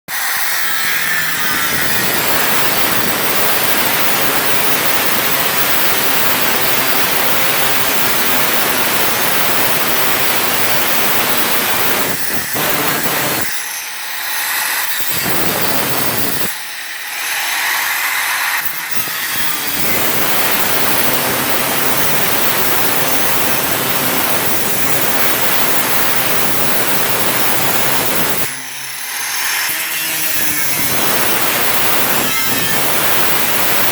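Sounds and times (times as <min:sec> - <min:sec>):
power tool cutting metal panel: 0:00.1 - 0:33.9.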